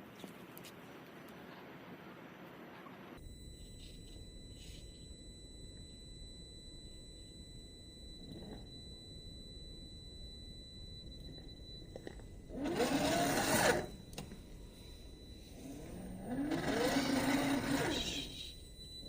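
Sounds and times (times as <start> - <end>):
electric motor whining: 3.2 - 19.0.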